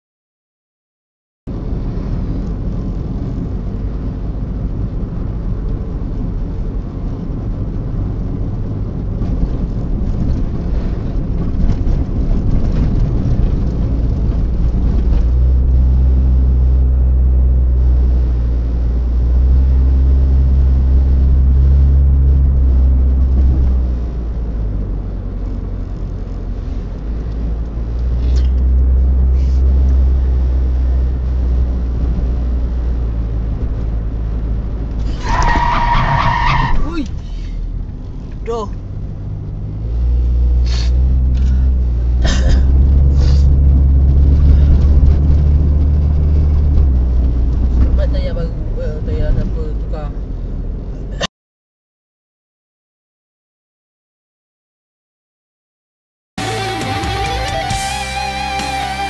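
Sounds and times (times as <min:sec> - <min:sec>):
deep engine drone: 0:01.5 - 0:35.2, 0:37.2 - 0:51.3, 0:56.4 - 0:59.0
car engine and tyre rumble: 0:01.5 - 0:51.3, 0:56.4 - 0:59.0.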